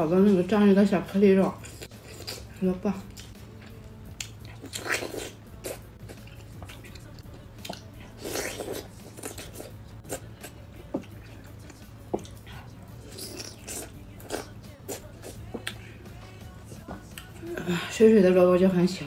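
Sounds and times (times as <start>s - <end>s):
biting and chewing radish: 1.4s - 17.6s.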